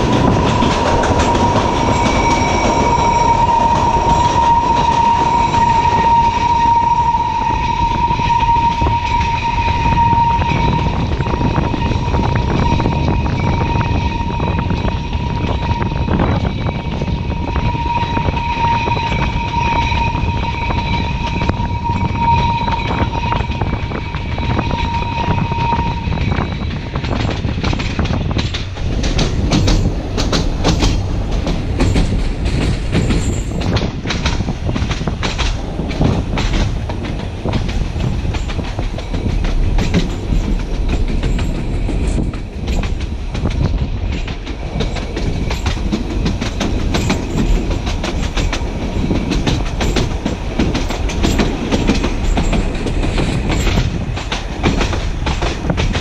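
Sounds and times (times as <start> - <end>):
train running rumble: 0.0 - 56.0
train wheels clicking over rail joints: 0.0 - 56.0.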